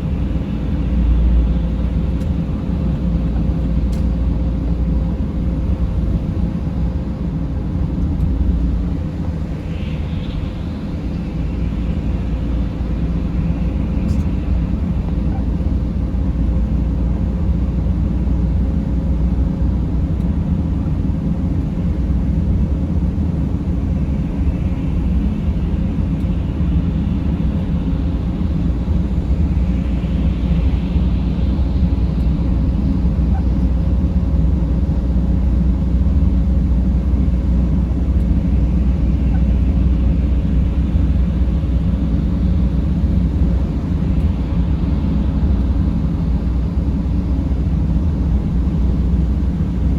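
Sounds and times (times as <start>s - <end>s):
faint constant hum: 0.0s - 49.9s
van engine and road noise: 0.0s - 49.9s.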